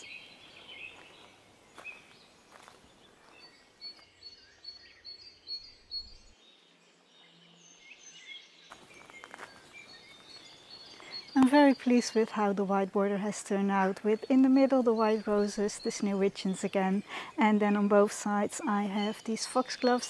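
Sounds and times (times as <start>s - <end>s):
birds singing: 0.0s - 20.0s.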